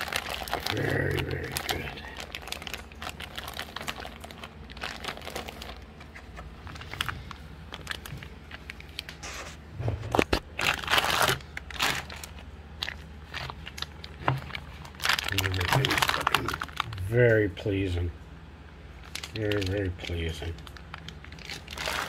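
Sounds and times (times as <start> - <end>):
plastic bags crinkling: 0.0 - 17.2, 19.0 - 22.0.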